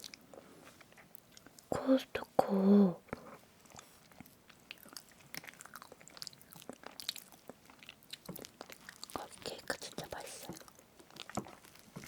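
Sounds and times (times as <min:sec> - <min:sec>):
close chewing of cake: 0:00.0 - 0:02.4, 0:03.0 - 0:12.0.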